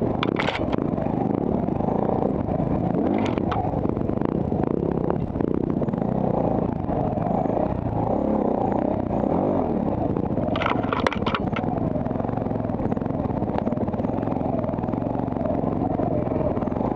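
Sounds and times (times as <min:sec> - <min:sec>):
dirt bike engine running: 0:00.0 - 0:16.9.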